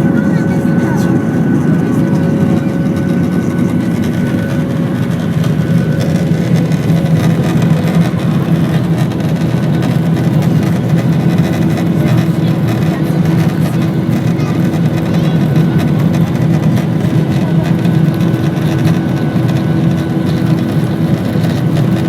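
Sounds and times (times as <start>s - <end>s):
airliner engines droning: 0.0s - 22.0s
faint engine whine: 0.0s - 22.0s.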